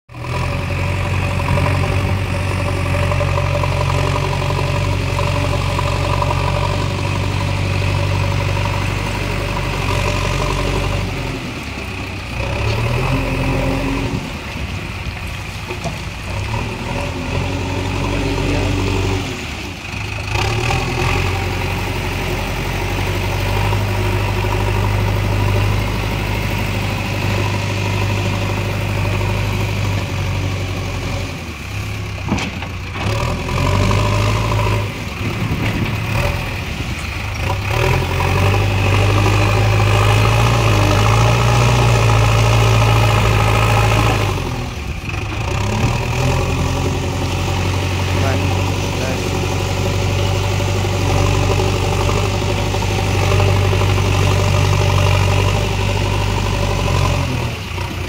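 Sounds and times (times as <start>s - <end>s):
diesel engine running: 0.1s - 58.0s.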